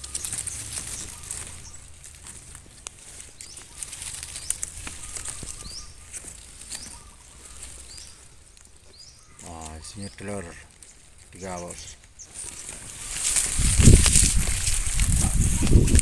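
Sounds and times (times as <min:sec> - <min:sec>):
grass rustling and crackling: 0:00.0 - 0:16.0.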